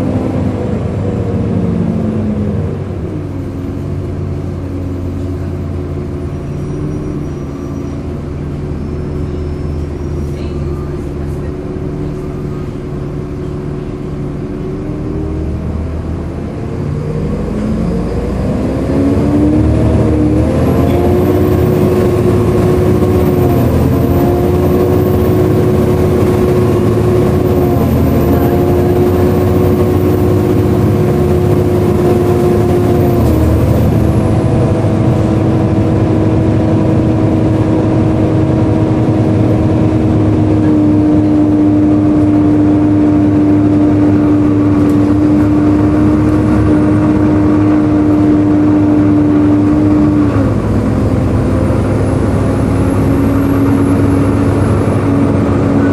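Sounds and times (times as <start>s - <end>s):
bus engine running: 0.0s - 55.9s.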